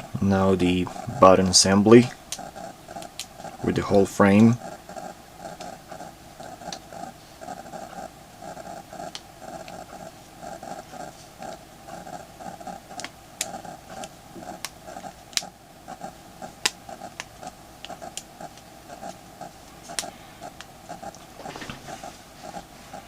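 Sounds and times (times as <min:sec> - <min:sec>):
pulsing hum: 0:00.0 - 0:23.0.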